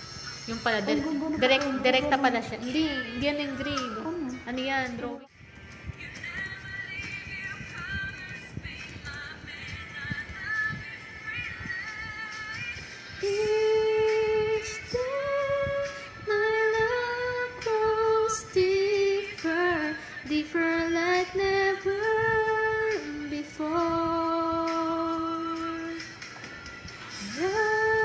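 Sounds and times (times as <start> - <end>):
woman singing slow melody: 0.4 - 5.3, 6.1 - 28.0.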